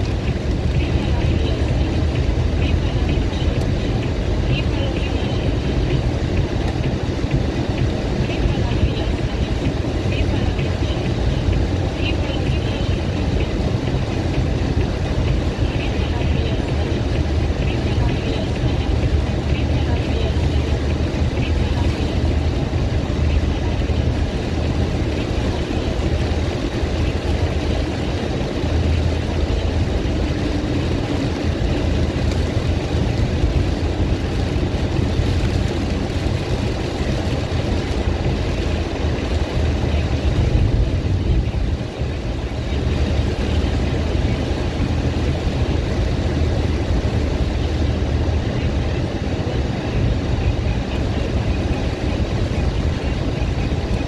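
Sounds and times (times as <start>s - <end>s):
car engine drone: 0.0s - 54.0s
tyres on wet pavement: 0.0s - 54.0s.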